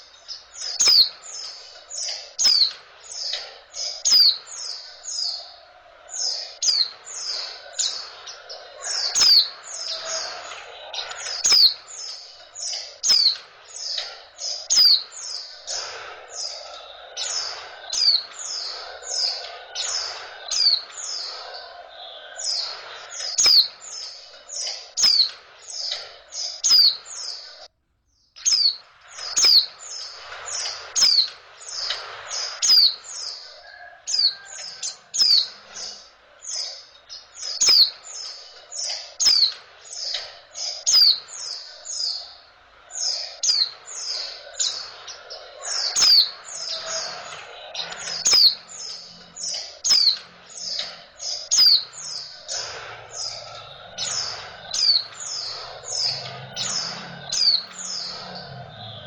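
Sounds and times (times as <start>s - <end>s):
bird chirps sliding downward: 0.0s - 27.6s, 28.4s - 59.0s.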